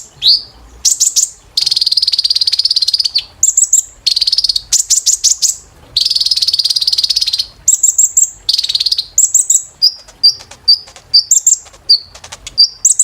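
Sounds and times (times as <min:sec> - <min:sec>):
sunbird singing high trills: 0:00.0 - 0:13.0.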